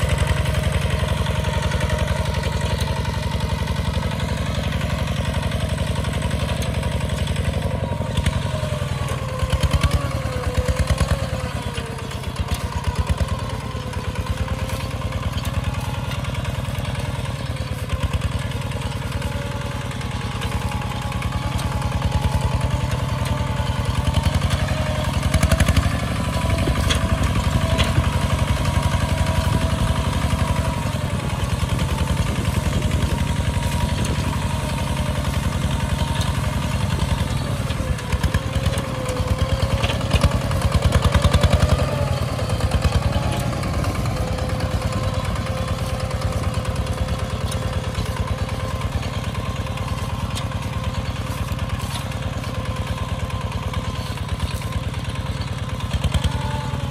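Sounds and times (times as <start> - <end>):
diesel tractor engine chugging: 0.0 - 56.9.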